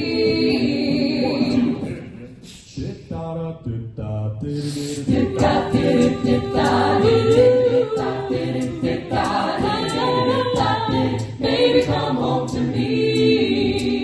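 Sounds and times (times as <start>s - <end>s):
a cappella harmony singing: 0.0s - 14.0s
vocal percussion beat: 0.0s - 14.0s.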